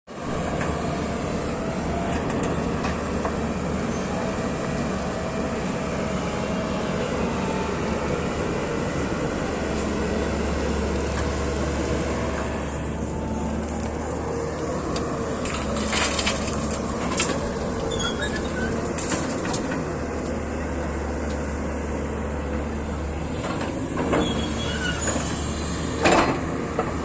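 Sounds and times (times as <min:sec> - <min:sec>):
excavator diesel engine running: 0:00.1 - 0:27.0.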